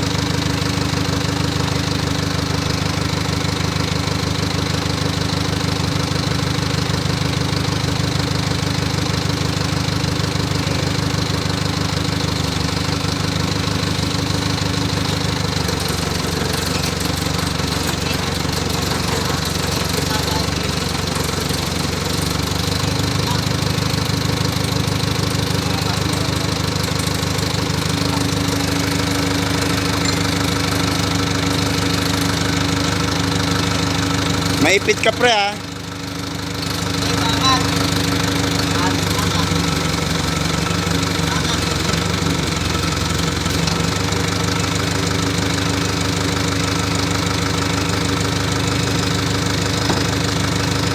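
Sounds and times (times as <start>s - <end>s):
diesel generator engine running: 0.0s - 50.9s.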